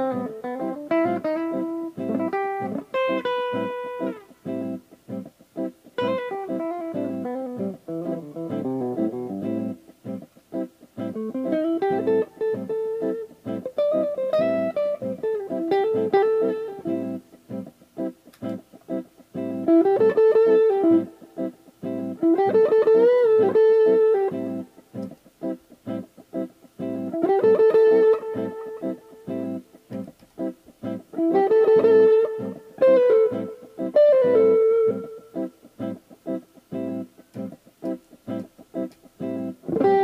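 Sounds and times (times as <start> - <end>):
electric guitar lead phrases: 0.0 - 40.0.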